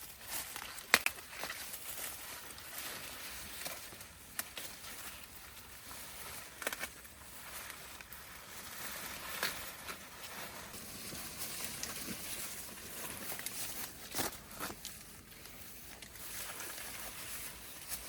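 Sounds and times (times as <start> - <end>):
outdoor background hiss: 1.4 - 18.0.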